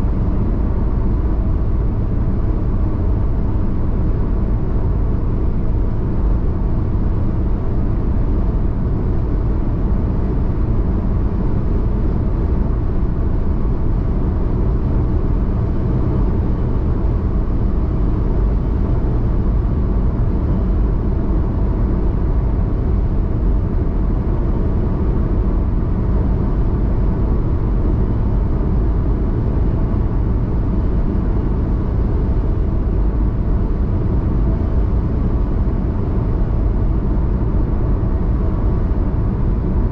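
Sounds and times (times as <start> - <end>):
car cabin road drone: 0.0 - 39.9.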